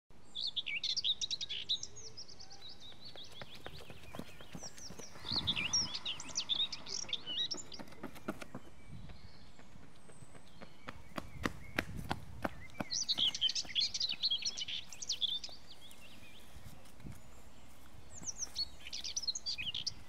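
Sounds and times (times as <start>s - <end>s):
songbirds chirping: 0.1s - 20.0s
steady outdoor hiss: 0.1s - 20.0s.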